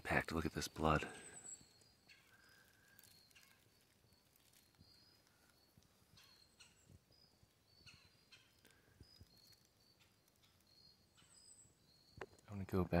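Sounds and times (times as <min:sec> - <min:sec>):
faint high chirps: 0:00.1 - 0:13.0.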